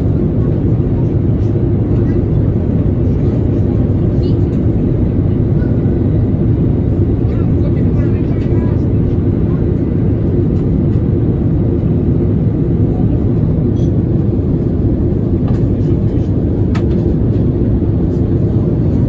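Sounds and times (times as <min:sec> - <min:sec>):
airliner cabin noise in flight: 0:00.0 - 0:19.0.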